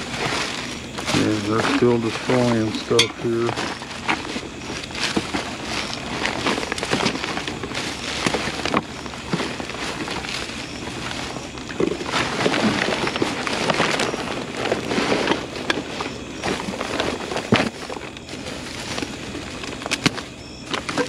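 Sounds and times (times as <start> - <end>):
plastic garbage bags rustling: 0.0 - 21.0.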